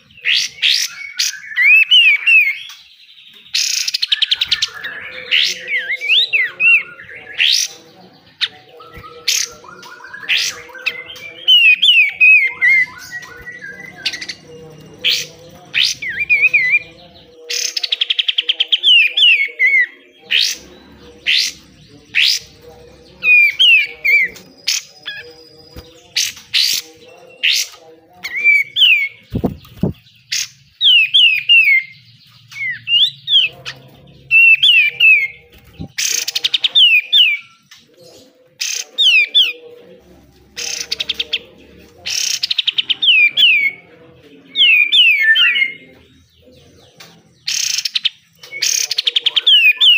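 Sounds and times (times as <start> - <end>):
bulbul singing: 0.0 - 49.9.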